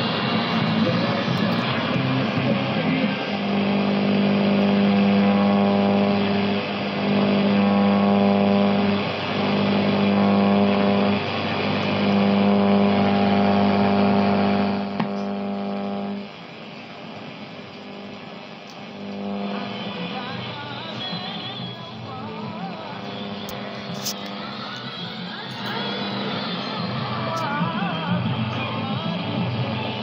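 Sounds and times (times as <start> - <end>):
static hiss: 0.0 - 30.0
steady droning radio tone: 0.0 - 30.0.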